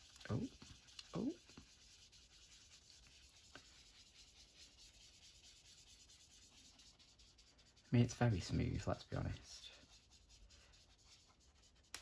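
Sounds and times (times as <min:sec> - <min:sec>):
sponge applicator rubbing on paper: 0:00.0 - 0:12.0.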